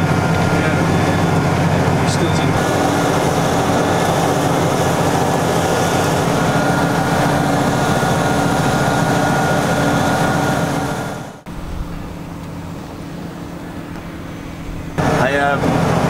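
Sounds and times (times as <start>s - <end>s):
thin steady whine: 0.0s - 16.0s
tractor diesel engine under load: 0.0s - 16.0s.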